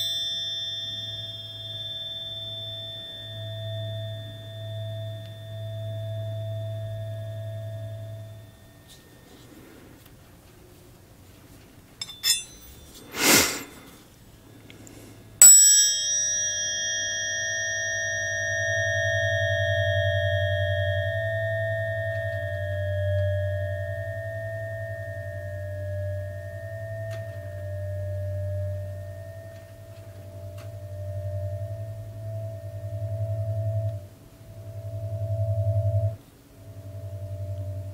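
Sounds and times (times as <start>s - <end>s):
tuning forks ringing: 0.0s - 10.3s, 11.9s - 37.9s.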